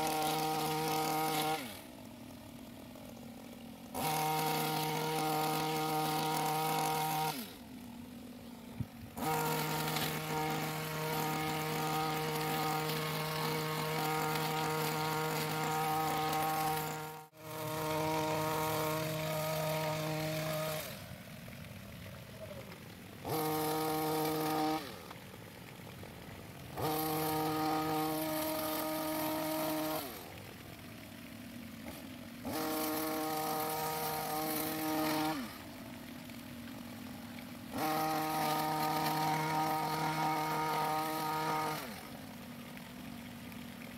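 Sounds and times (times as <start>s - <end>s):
hedge trimmer revving and idling: 0.0s - 43.9s.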